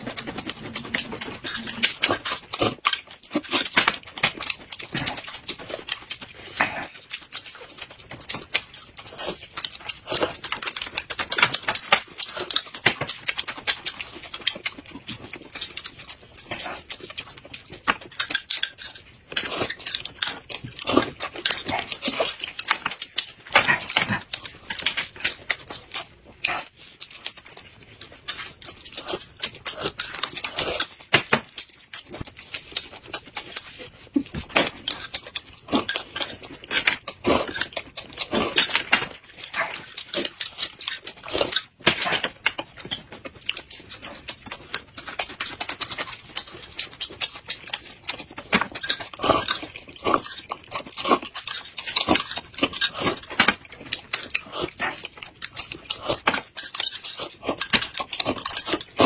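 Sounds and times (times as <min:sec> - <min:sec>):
wet chewing and lip-smacking: 0:00.0 - 0:59.0.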